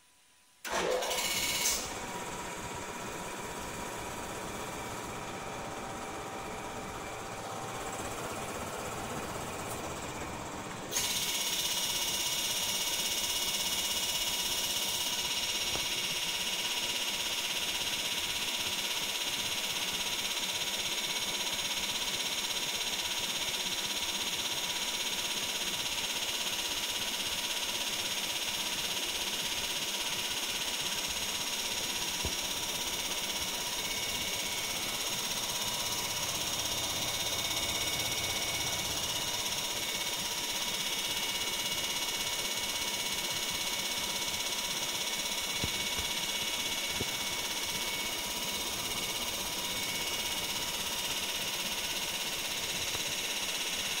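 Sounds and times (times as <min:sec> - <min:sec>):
air compressor running: 0:00.6 - 0:54.0.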